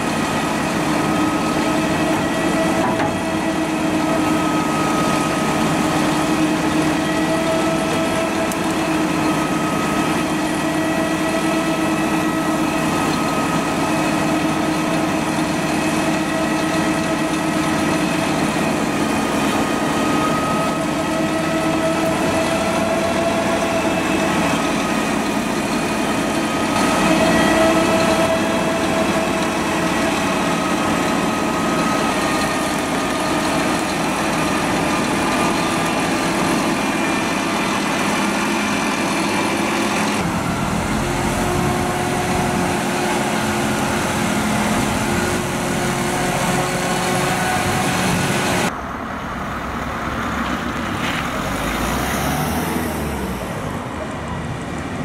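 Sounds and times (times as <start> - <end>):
multi-tone machine whine: 0.0 - 49.2
diesel engine running: 0.0 - 55.0.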